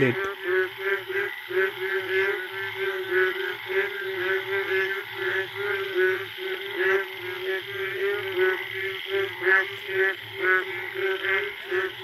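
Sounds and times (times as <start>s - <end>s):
chorus of frogs calling: 0.0s - 12.0s.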